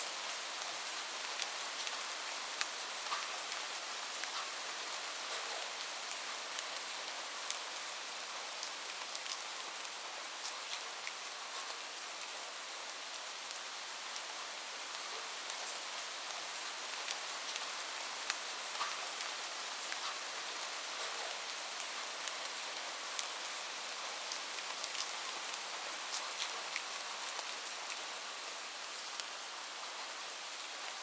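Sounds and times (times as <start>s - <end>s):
rain on a roof: 0.0s - 31.0s.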